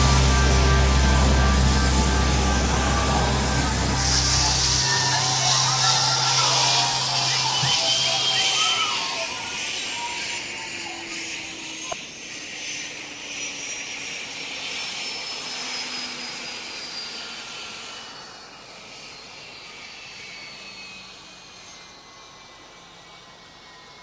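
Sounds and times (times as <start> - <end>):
jet aircraft engine whine: 0.0 - 24.0.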